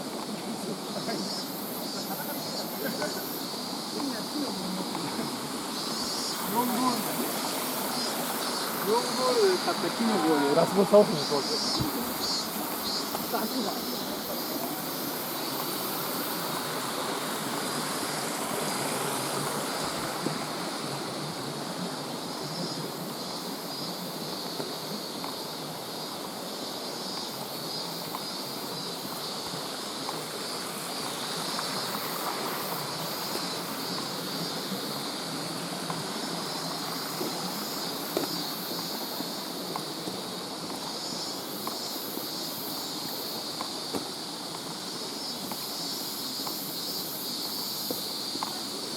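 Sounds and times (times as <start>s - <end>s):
mountain stream rushing: 0.0s - 48.9s.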